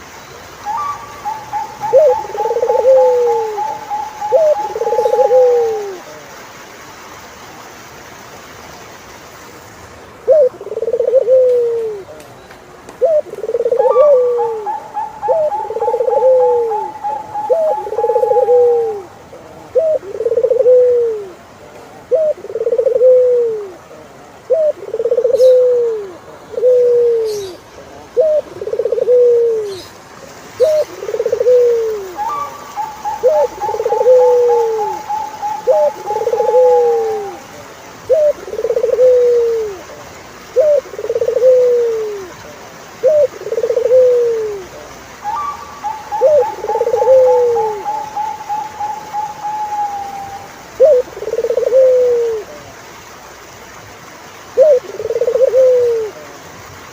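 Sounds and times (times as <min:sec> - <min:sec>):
turtle doves cooing: 0:00.6 - 0:06.3, 0:10.2 - 0:12.2, 0:13.0 - 0:52.7, 0:54.5 - 0:56.5.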